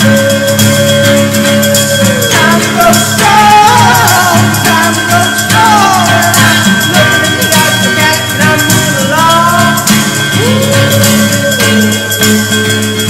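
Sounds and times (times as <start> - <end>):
upbeat music with percussion: 0.0 - 13.0.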